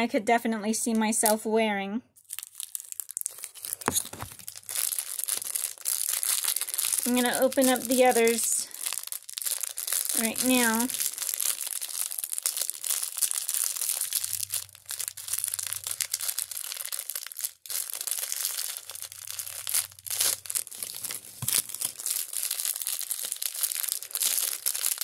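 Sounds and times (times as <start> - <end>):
wrapping crinkling and tearing: 2.2 - 25.0.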